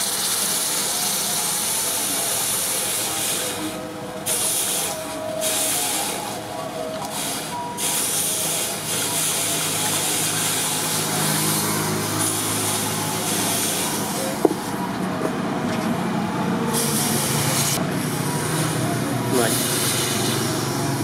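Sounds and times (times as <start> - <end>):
hot steel hissing and sizzling: 0.0 - 14.4, 16.7 - 21.0.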